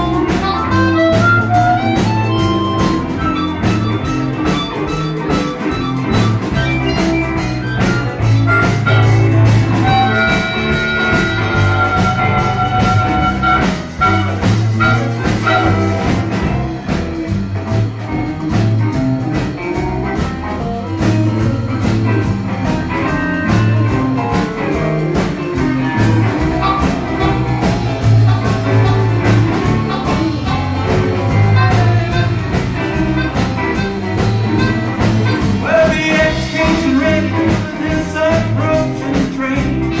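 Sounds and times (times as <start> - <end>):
bass line: 0.0 - 40.0
drum kit beat: 0.0 - 40.0
lead instrument melody: 0.0 - 40.0.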